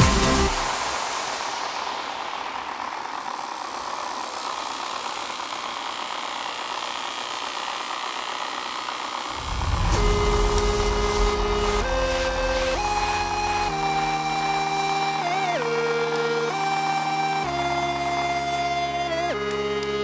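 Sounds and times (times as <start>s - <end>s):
electric desk fans whirring: 0.6s - 20.0s.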